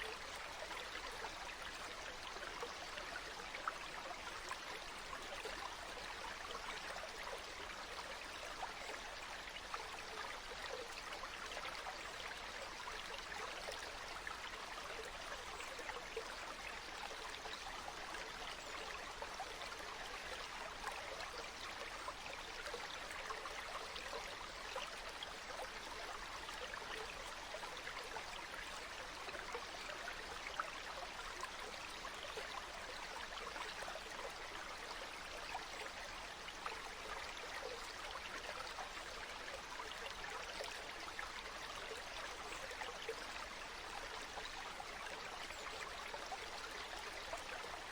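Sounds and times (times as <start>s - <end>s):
stream water babbling: 0.0s - 47.9s.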